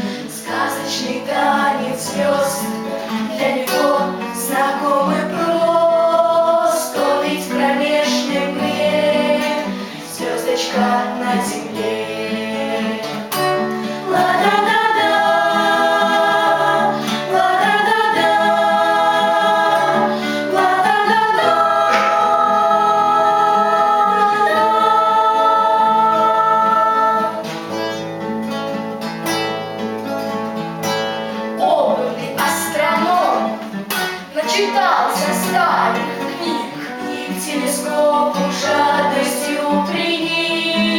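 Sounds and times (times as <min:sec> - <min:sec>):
voices singing together: 0:00.0 - 0:28.0, 0:34.6 - 0:40.9
acoustic guitar: 0:00.0 - 0:40.9.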